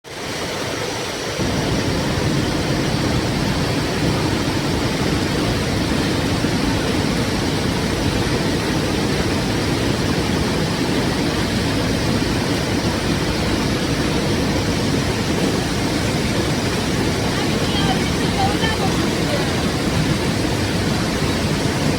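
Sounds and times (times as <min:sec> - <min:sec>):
river water flowing: 0:00.1 - 0:21.9.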